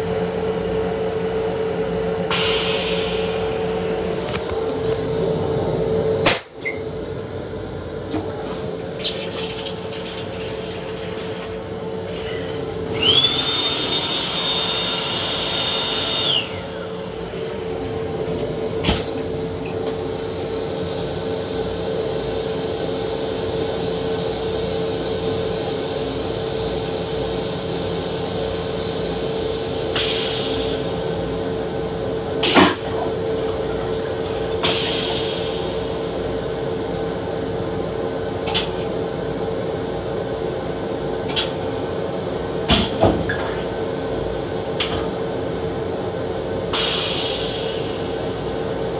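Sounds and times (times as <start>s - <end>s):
steady train hum: 0.0s - 9.0s, 10.1s - 48.9s.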